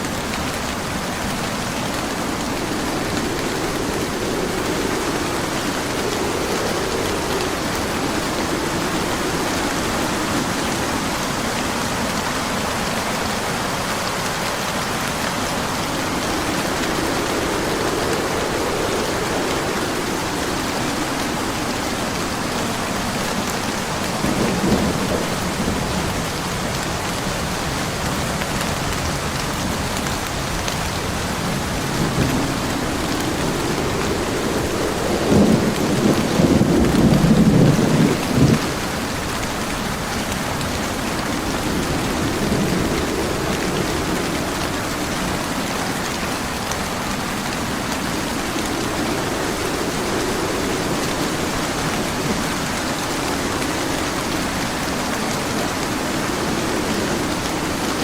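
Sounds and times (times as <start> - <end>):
heavy rain hissing: 0.0 - 58.0
thunder rumbling: 0.0 - 58.0.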